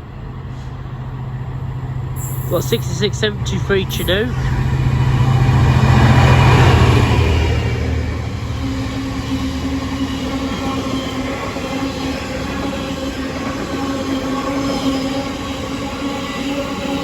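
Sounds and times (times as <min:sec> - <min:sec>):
freight train passing: 0:00.0 - 0:17.0
wheels rumbling on rail: 0:00.0 - 0:17.0.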